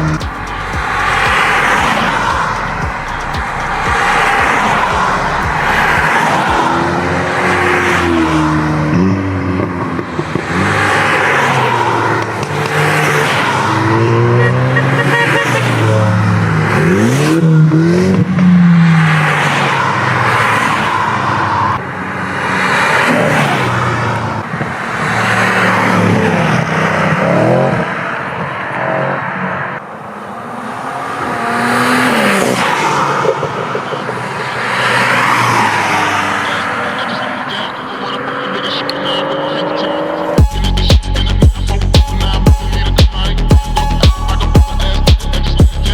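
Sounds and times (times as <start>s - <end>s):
sports car engines revving: 0.0s - 45.9s.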